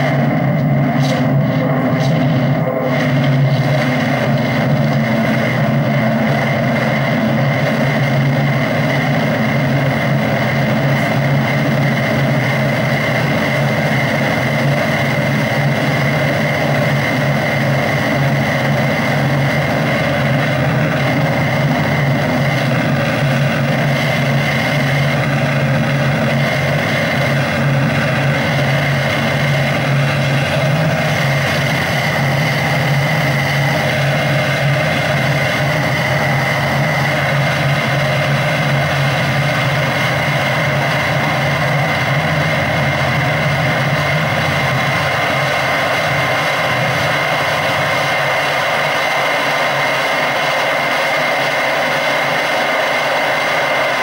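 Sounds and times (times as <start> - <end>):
dense electronic drone: 0.0 - 54.0.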